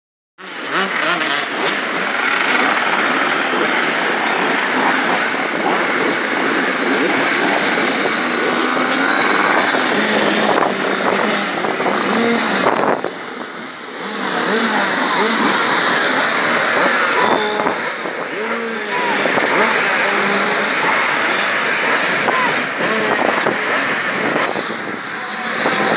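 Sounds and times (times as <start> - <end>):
motocross bikes idling and revving: 0.4 - 25.9.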